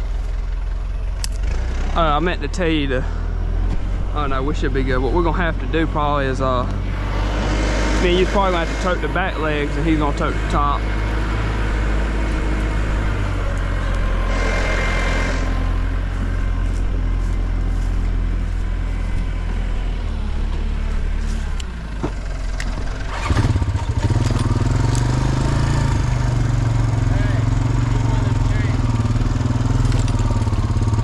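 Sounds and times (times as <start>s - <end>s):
backhoe engine running: 0.0s - 31.0s.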